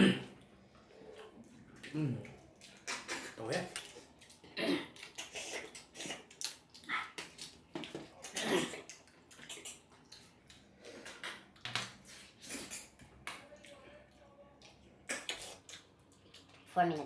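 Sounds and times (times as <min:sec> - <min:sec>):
people chewing and lip-smacking: 0:00.2 - 0:17.0.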